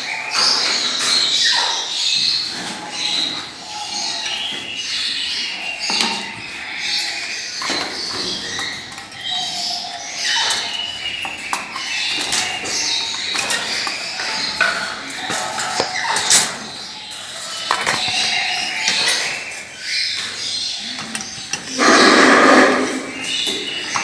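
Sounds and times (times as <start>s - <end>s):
parrots chirping and chattering: 0.0s - 24.0s.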